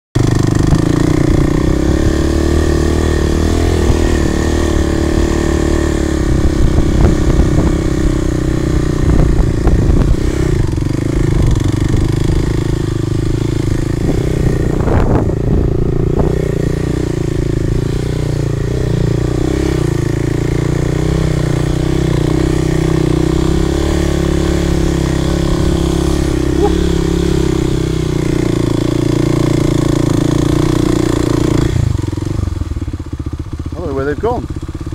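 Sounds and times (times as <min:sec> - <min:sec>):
dirt bike engine running: 0:00.2 - 0:34.9.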